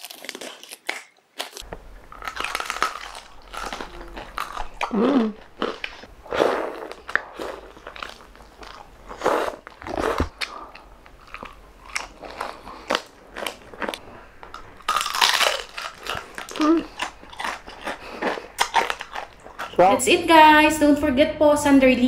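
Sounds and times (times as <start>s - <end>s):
crunchy bites into fried food: 0.0s - 6.0s, 6.9s - 19.8s
chewing: 0.0s - 19.9s.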